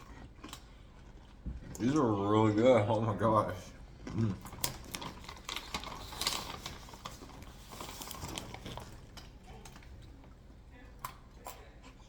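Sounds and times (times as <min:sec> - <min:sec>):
chewing crunchy pretzels: 0:00.0 - 0:12.0.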